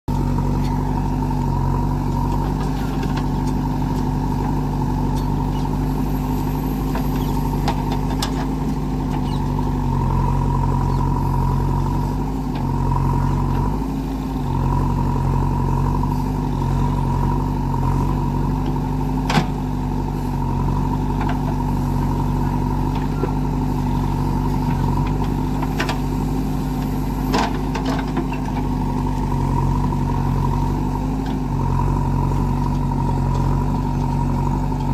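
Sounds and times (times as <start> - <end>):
backhoe diesel engine digging: 0.1 - 34.9.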